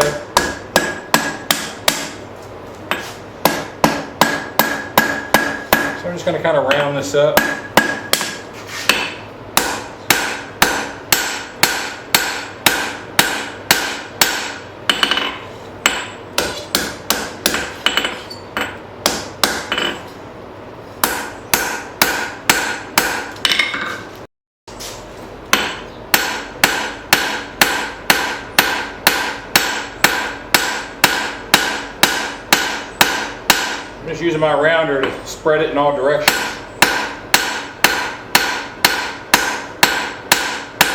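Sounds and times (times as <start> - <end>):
hammer striking steel on anvil: 0.0 - 2.2, 2.9 - 6.0, 6.7 - 20.1, 21.0 - 24.1, 25.5 - 33.9, 36.2 - 40.9.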